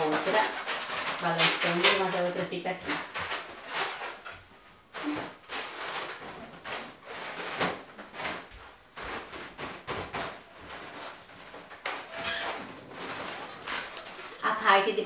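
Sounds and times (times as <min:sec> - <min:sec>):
latex balloons squeaking and rubbing: 0:00.0 - 0:15.0.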